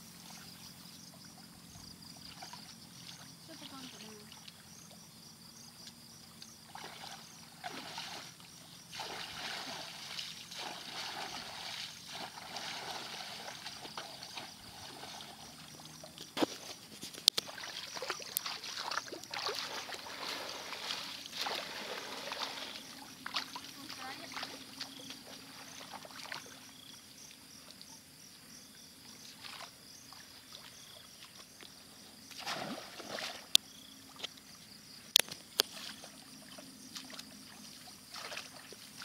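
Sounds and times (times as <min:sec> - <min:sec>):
muddy water splashing: 0:00.2 - 0:05.0, 0:05.8 - 0:28.0, 0:28.9 - 0:34.5, 0:35.2 - 0:39.0.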